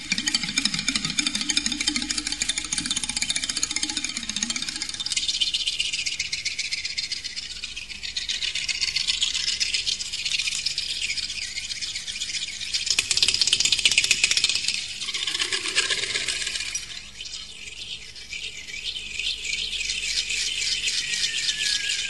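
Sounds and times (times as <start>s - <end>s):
fast patter of tiny clicks: 0.0s - 17.8s.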